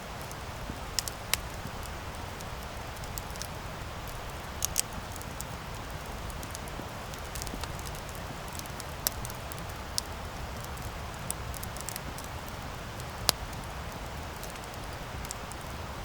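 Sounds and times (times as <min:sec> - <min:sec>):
campfire flames rushing: 0:00.0 - 0:16.0
fire crackling and popping: 0:00.0 - 0:16.0.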